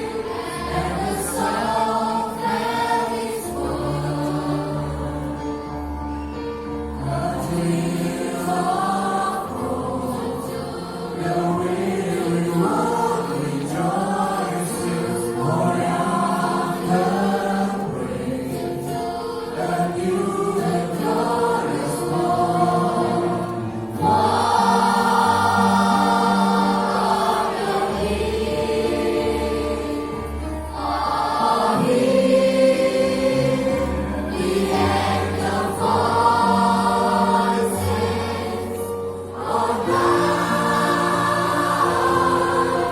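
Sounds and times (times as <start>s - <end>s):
children's choir singing a hymn: 0.0s - 42.9s
keyboard accompaniment: 0.0s - 42.9s.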